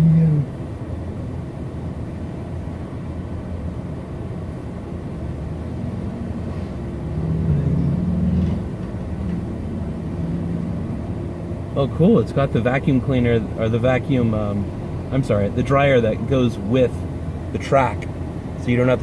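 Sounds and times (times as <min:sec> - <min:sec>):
car wash machinery rumbling: 0:00.0 - 0:19.0.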